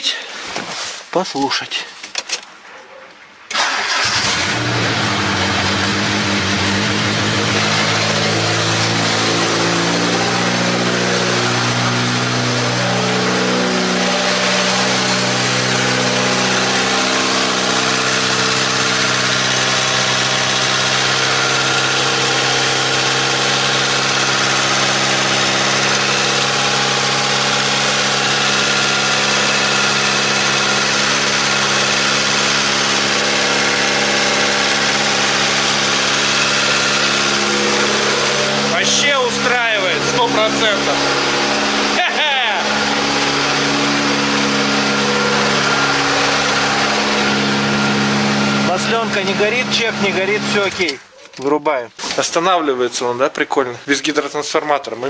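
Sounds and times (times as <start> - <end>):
car engine idling: 3.5 - 51.0.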